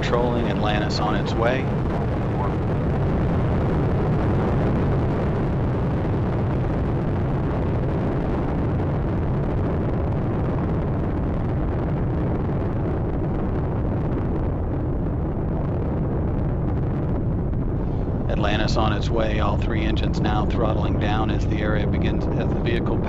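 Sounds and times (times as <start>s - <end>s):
rocket engines rumbling: 0.0s - 23.0s.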